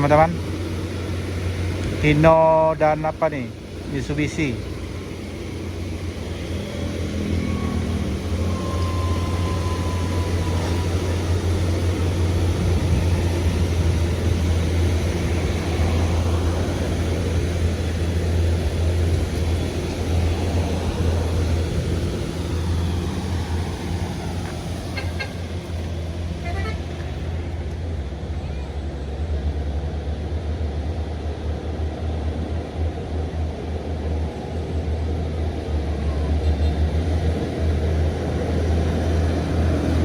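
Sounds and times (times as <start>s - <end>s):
diesel trucks passing: 0.0s - 40.0s.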